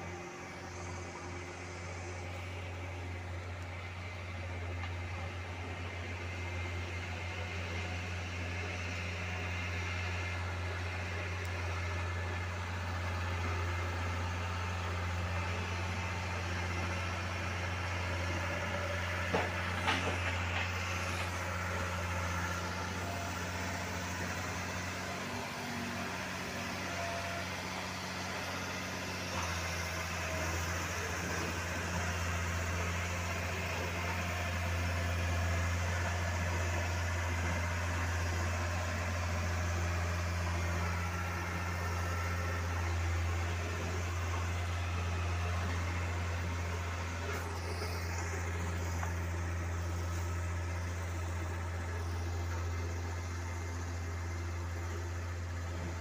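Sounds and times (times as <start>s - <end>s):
train running: 0.0s - 56.0s.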